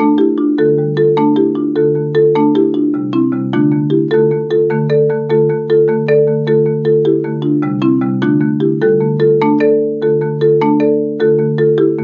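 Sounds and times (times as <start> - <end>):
marimba playing: 0.0 - 12.0.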